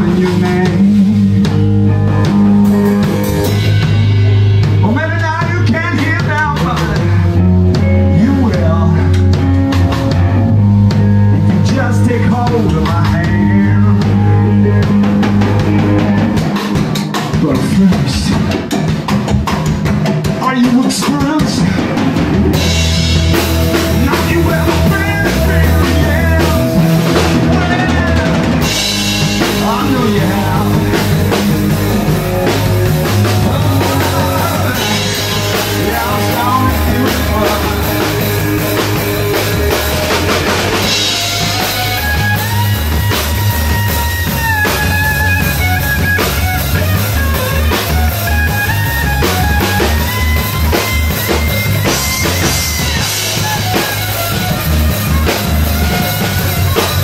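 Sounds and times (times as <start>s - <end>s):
bass guitar: 0.0s - 57.0s
drum kit with cymbals: 0.0s - 57.0s
electric guitar lead lines: 0.0s - 57.0s.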